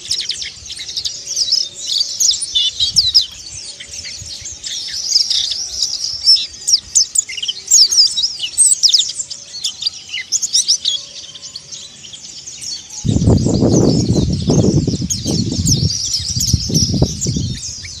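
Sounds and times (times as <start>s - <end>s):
bird chirping and twittering: 0.0s - 18.0s.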